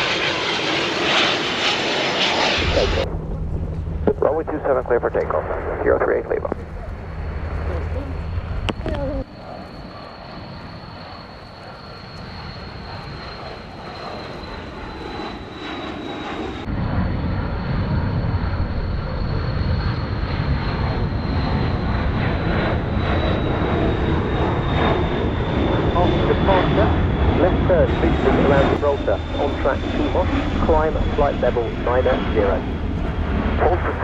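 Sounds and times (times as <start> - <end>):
high-pitched engine whine: 0.0 - 34.0
jet engines roaring: 0.0 - 34.0.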